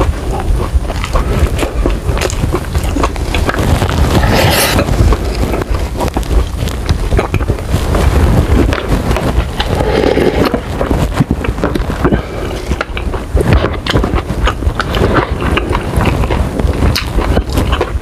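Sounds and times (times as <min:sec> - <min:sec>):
wet chewing and mouth clicks: 0:00.0 - 0:18.0.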